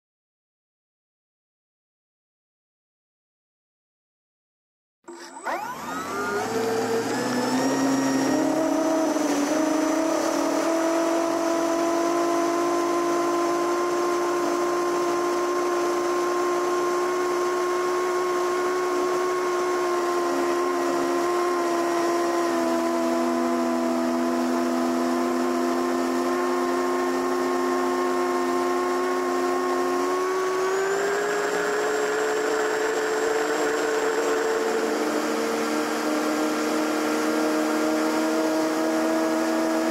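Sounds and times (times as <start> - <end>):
electric motor and propeller whine: 5.1 - 39.9.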